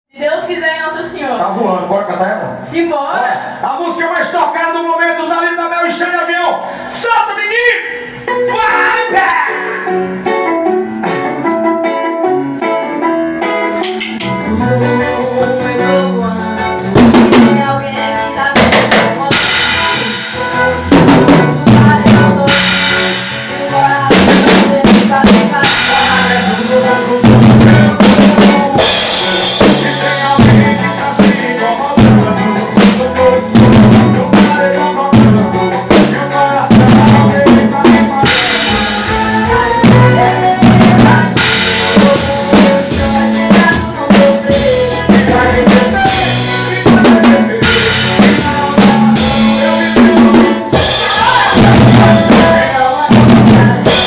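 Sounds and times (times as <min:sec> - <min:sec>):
bass and pitched instruments: 0:00.1 - 0:54.0
drum kit beat: 0:00.2 - 0:54.0.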